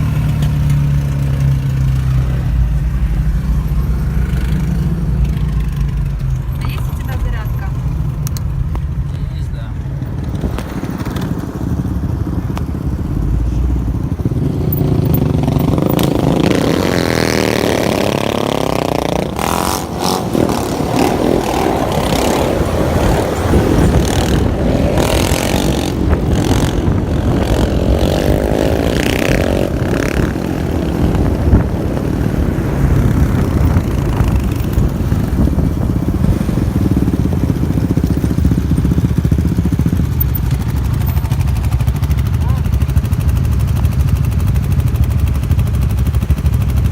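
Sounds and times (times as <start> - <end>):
quad bike engines revving: 0.0 - 46.9.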